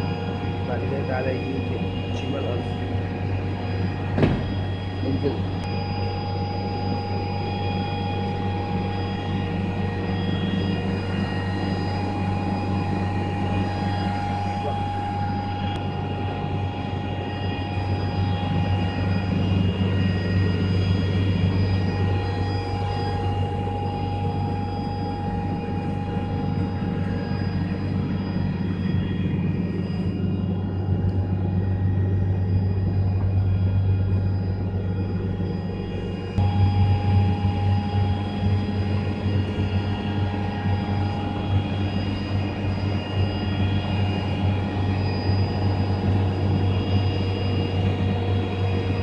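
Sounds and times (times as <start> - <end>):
air compressor hum and whine: 0.0 - 49.0.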